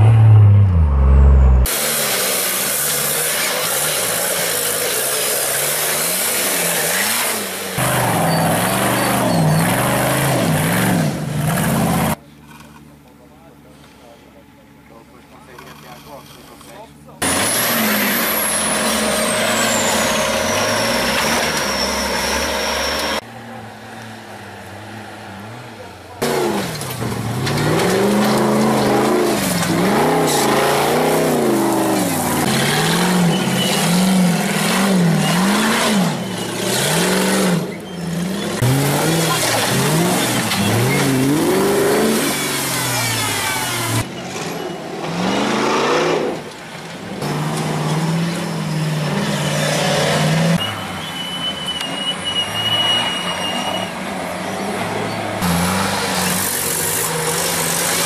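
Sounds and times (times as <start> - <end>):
off-road engines revving: 0.0 - 58.0.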